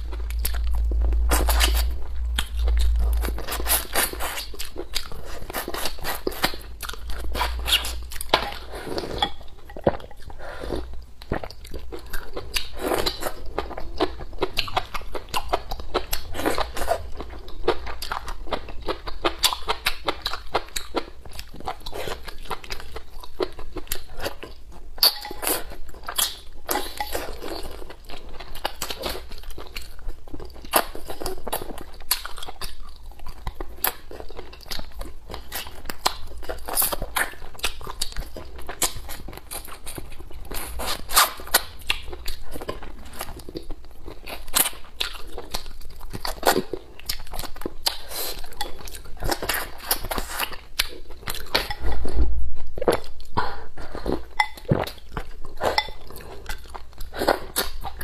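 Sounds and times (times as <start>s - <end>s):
person chewing and sucking food: 0.0s - 58.0s.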